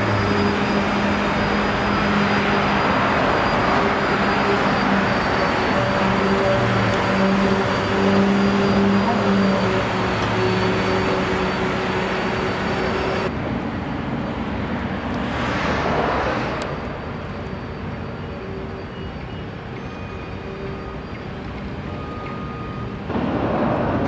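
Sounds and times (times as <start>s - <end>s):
engine hum: 0.0s - 19.8s
road traffic noise: 0.0s - 24.0s.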